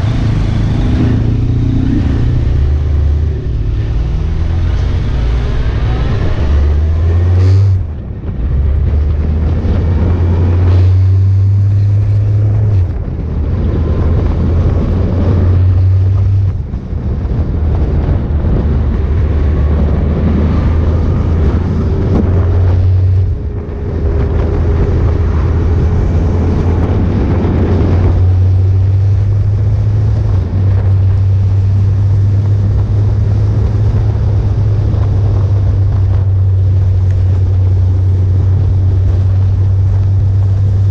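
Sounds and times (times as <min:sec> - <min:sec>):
motorcycle engine running: 0:00.0 - 0:40.9
wind on microphone: 0:00.0 - 0:40.9.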